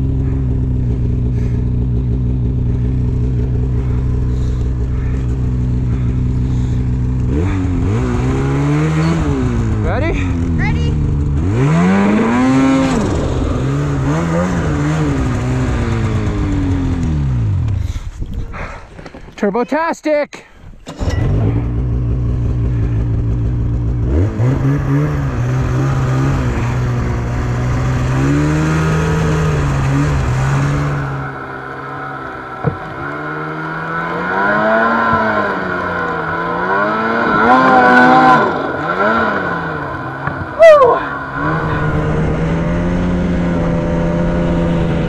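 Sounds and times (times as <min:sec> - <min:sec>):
snowmobile engine revving: 0:00.0 - 0:18.0, 0:20.9 - 0:45.0.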